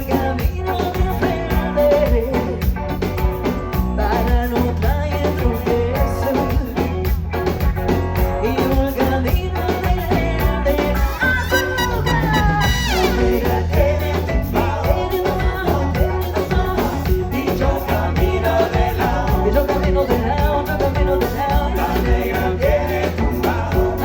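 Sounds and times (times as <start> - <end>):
latin pop band playing: 0.0 - 24.0.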